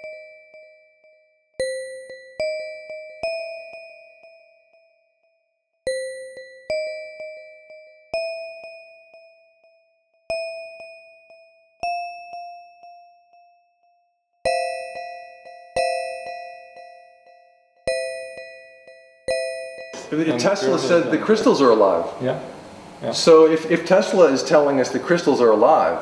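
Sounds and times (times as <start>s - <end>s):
bell-like chimes: 0.0s - 21.4s.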